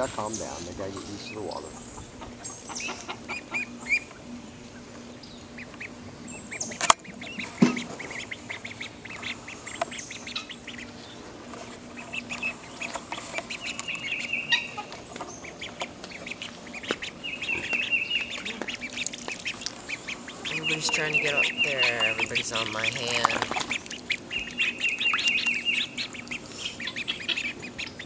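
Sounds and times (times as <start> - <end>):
ducklings peeping shrilly: 0.0 - 28.0.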